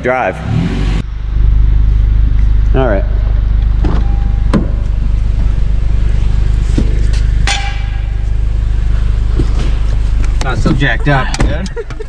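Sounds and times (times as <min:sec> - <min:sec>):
car engine idling with deep rumble: 0:01.0 - 0:12.0.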